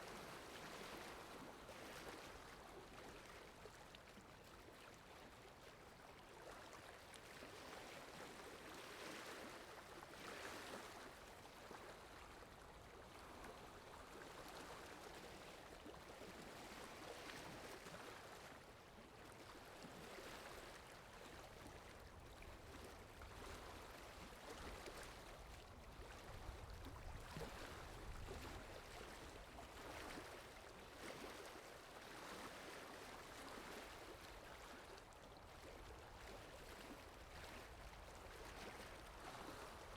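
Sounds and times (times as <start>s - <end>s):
water lapping: 0.0s - 39.9s.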